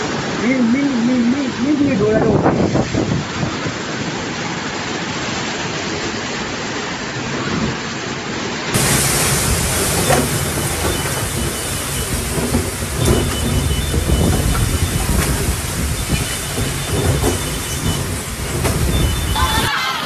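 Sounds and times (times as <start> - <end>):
heavy rain: 0.0 - 20.0
strong wind: 0.0 - 20.0.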